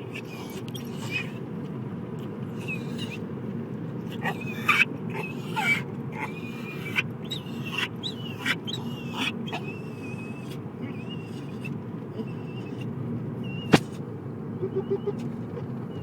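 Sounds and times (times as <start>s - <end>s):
dog whining squeakily: 0.0s - 1.4s, 2.6s - 3.2s, 4.1s - 13.9s, 14.6s - 16.0s
car road noise: 0.0s - 16.0s.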